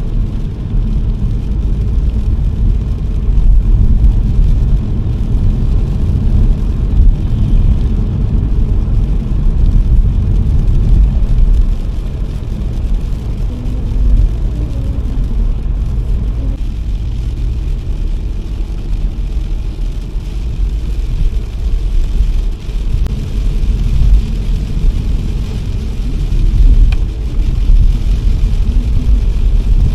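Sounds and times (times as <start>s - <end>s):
car road and engine rumble: 0.0s - 29.9s
rain on car: 0.0s - 29.9s.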